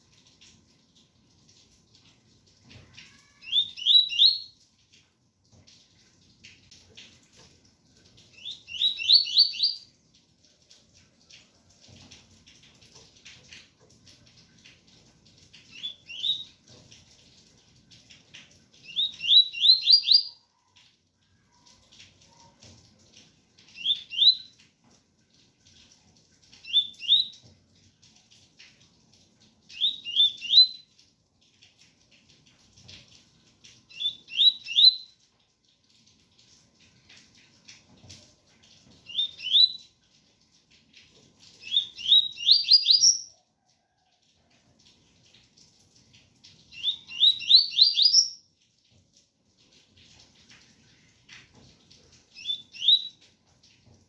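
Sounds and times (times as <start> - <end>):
faint patter of rain: 0.0 - 54.0.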